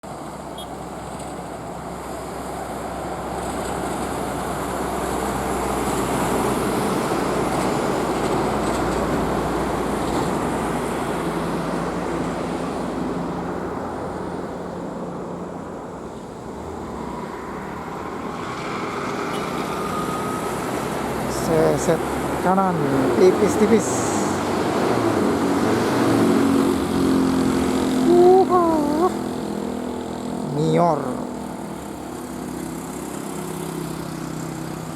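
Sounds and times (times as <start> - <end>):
bus engine: 0.0 - 34.9
tyre and road noise: 0.0 - 34.9.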